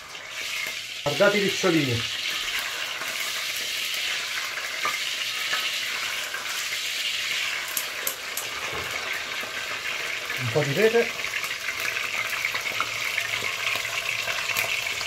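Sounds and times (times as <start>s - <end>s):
octopus sizzling in hot oil: 0.0s - 15.0s.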